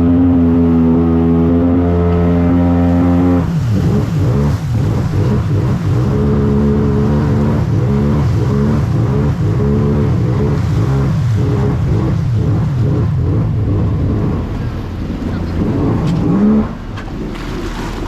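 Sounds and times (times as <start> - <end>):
jet ski engine revving: 0.0 - 18.0.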